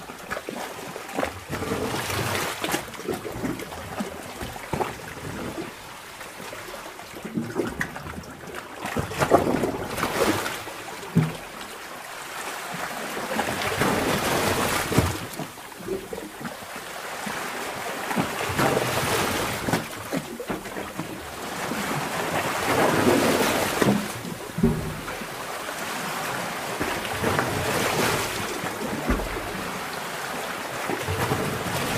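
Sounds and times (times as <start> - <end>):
underwater rushing bubbling seawater: 0.0 - 31.9.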